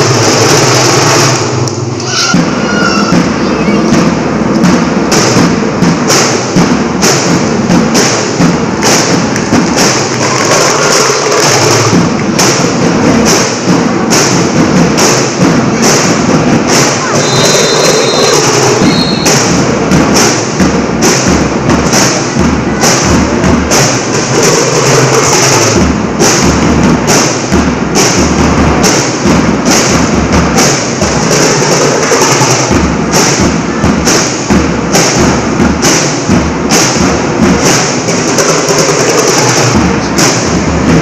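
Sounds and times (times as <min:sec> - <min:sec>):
marching drums: 0:00.0 - 0:41.0.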